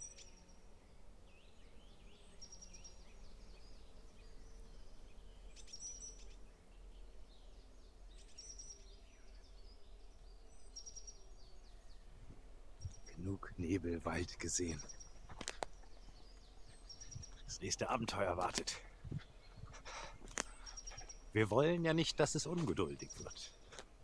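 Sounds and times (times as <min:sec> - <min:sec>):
forest birdsong: 0:00.0 - 0:24.0.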